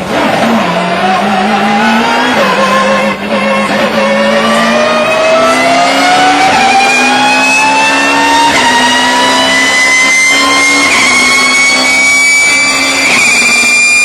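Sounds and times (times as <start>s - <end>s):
high gear whine: 0.0s - 14.0s
race car engine accelerating: 0.0s - 14.0s.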